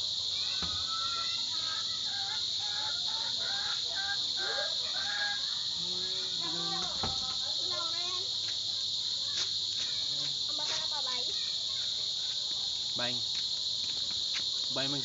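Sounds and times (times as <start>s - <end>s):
faint distant calls: 0.0s - 15.0s
insect chorus: 0.0s - 15.0s.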